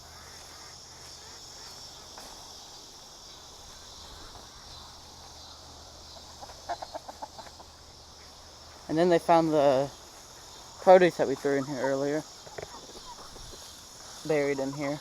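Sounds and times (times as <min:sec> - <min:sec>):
hens clucking: 0:00.0 - 0:15.0
high-pitched insect chorus: 0:00.0 - 0:15.0.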